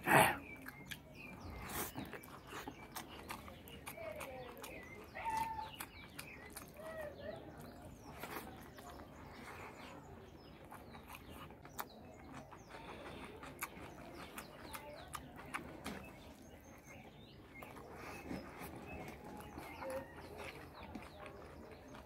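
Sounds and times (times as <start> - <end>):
birds chirping and clucking: 0.0 - 22.0
chewing and lip smacks: 0.0 - 22.0.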